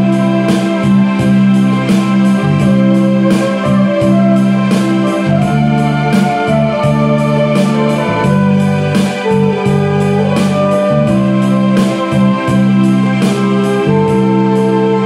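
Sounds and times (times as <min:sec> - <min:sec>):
flugelhorn playing slow melody: 0:00.0 - 0:15.0
keyboard backing track with beat: 0:00.0 - 0:15.0.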